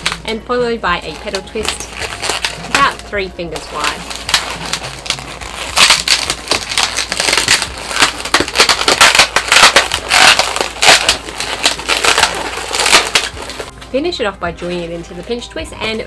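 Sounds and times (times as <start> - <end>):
balloons rubbing and crackling: 0.0 - 16.0.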